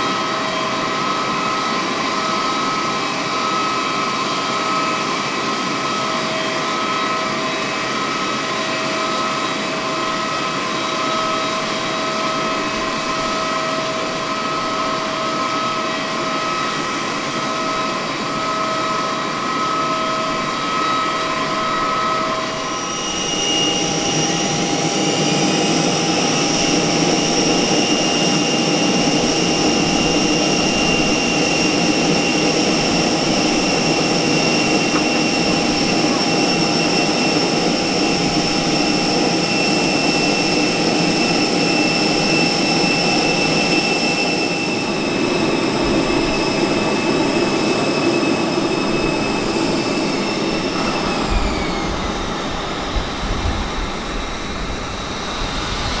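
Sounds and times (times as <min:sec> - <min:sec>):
jet turbine whine: 0:00.0 - 0:56.0.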